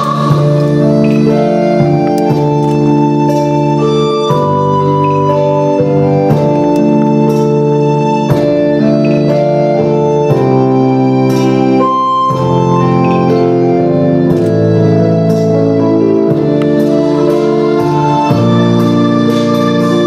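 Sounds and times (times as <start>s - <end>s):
organ playing sustained chords: 0.0s - 20.0s.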